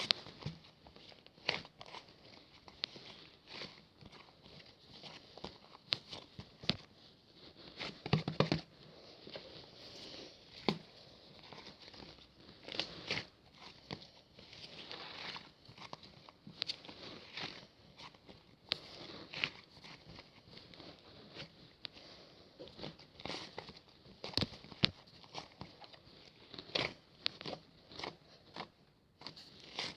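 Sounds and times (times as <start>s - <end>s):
crinkling rustles: 0.0s - 29.9s.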